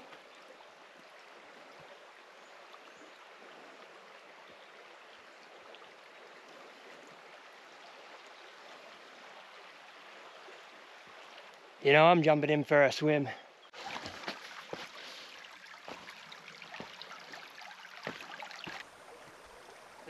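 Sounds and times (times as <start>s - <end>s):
creek trickling over rocks: 0.0s - 20.0s.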